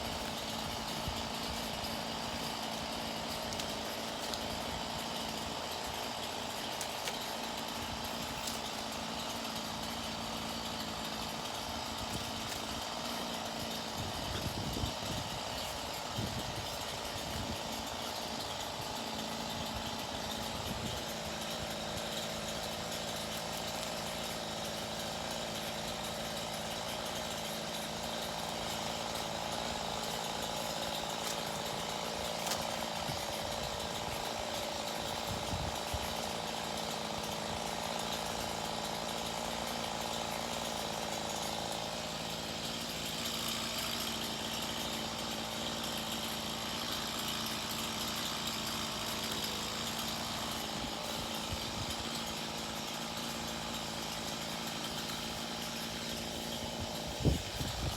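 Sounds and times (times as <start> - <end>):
chainsaw cutting: 0.0 - 57.9.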